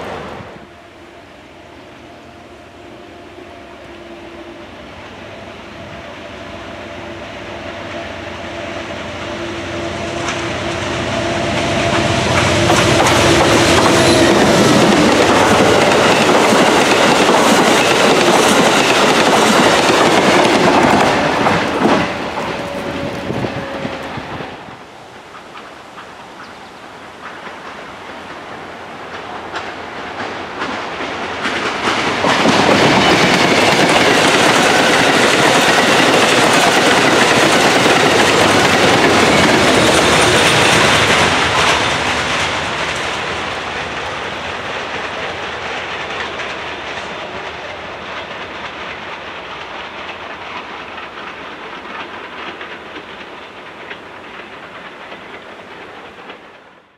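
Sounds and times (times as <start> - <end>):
passenger train passing: 0.0 - 56.9
train wheels clicking over rail joints: 8.9 - 24.6, 25.2 - 56.8.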